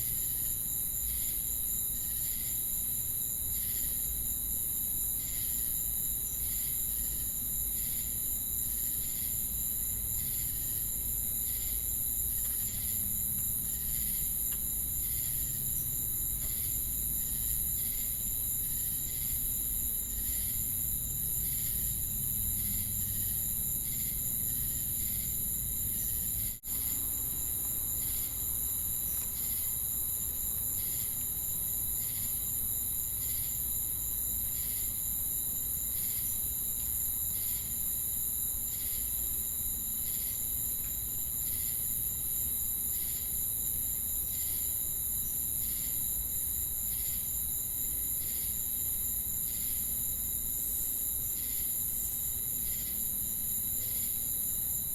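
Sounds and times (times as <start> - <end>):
cricket chirp: 0.0 - 54.9.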